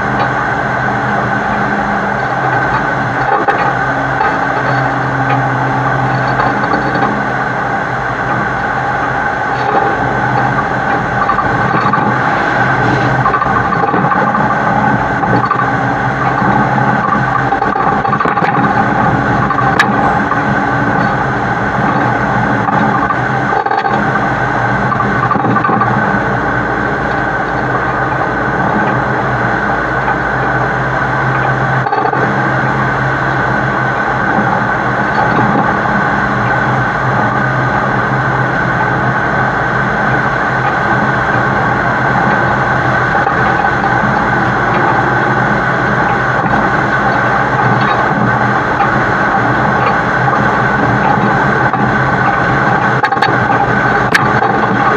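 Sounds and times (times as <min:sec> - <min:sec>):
road noise: 0:00.0 - 0:54.9
truck engine drone: 0:00.0 - 0:54.9
wind noise: 0:00.0 - 0:54.9.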